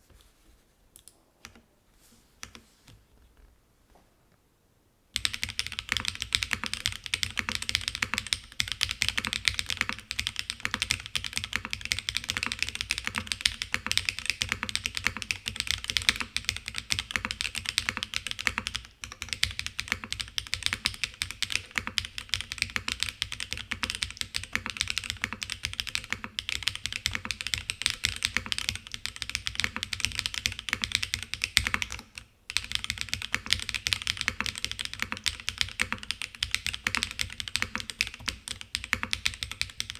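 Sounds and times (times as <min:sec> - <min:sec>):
mechanical keyboard typing: 0:05.2 - 0:39.9.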